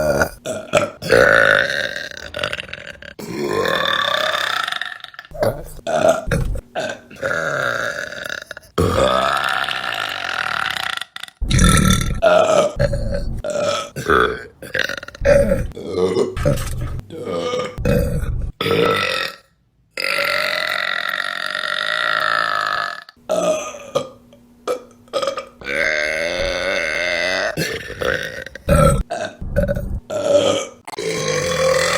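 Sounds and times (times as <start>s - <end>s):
women burping: 0.0s - 19.4s, 20.0s - 31.9s.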